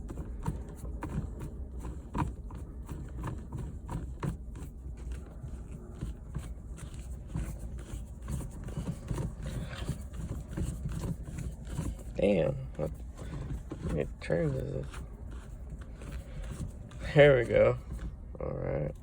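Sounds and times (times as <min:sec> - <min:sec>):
light clicks and knocks: 0:00.0 - 0:19.0.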